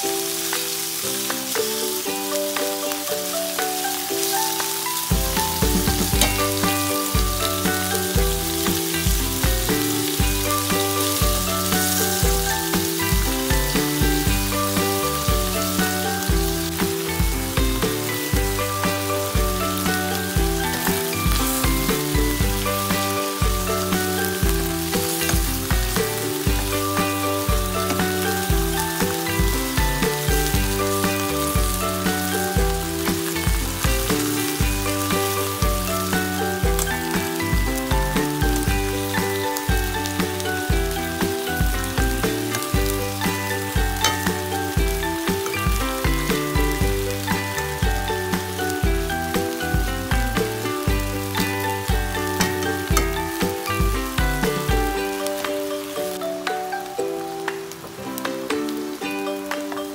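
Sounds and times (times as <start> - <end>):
background music with steady beat: 0.0 - 59.9
meat sizzling in oil: 0.0 - 59.9.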